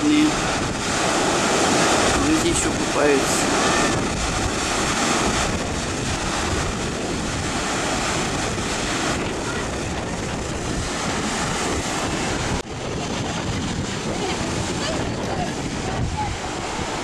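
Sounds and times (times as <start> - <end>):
heavy waves breaking: 0.0 - 17.0
wind buffeting microphone: 0.0 - 17.0.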